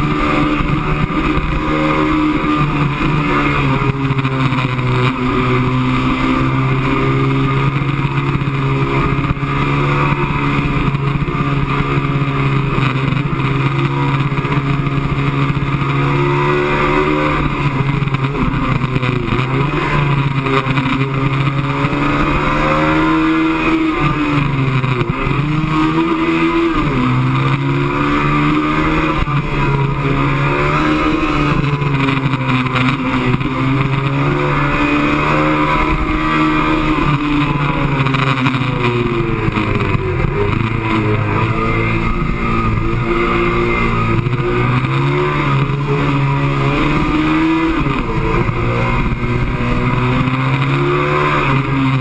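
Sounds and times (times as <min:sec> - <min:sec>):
motorcycle engine at high revs: 0:00.0 - 0:52.0.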